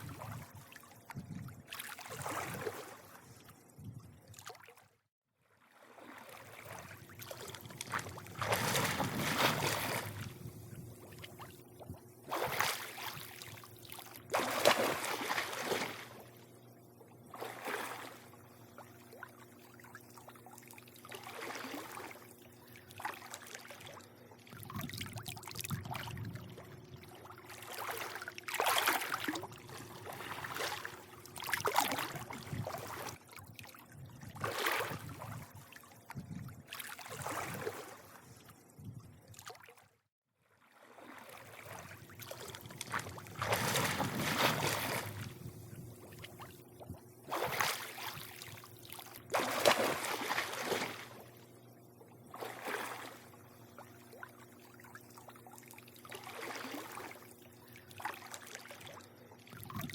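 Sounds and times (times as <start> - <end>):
pool water lapping and sloshing: 0.0 - 59.9
faint low hum: 6.4 - 39.5, 41.3 - 59.9.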